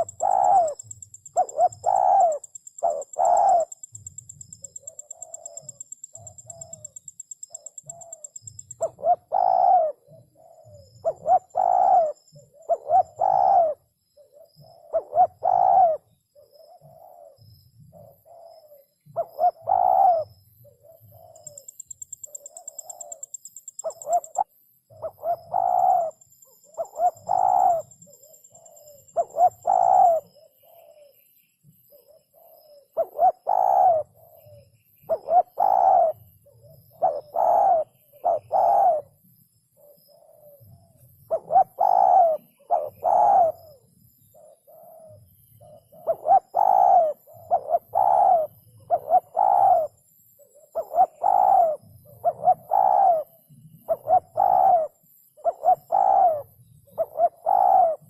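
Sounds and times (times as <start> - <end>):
dove cooing: 0.0 - 31.2, 31.9 - 39.2, 39.8 - 58.0.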